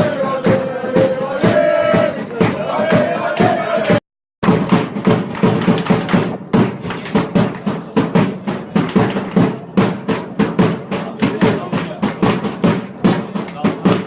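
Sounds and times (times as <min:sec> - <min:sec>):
supporters beating drums: 0:00.0 - 0:14.0.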